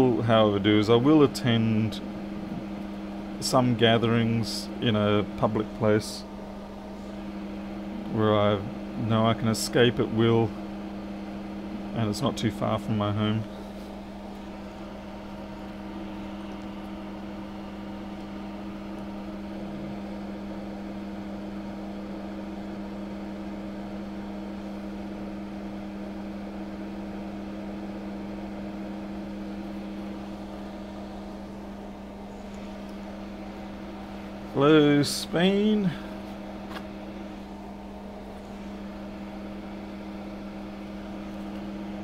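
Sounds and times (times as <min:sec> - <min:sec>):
machine hum with fan hiss: 0:00.0 - 0:42.0.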